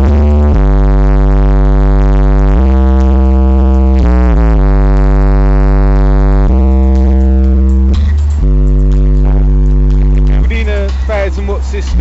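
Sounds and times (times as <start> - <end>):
loud synth bass music: 0.0 - 12.0.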